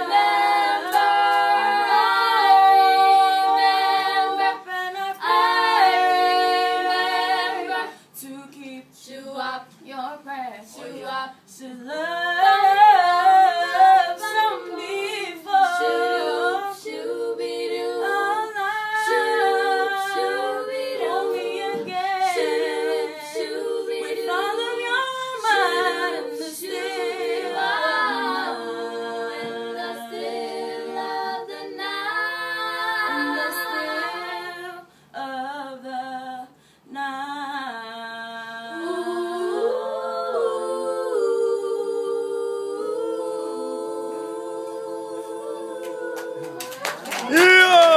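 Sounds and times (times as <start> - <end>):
girls singing a cappella: 0.0 - 47.1.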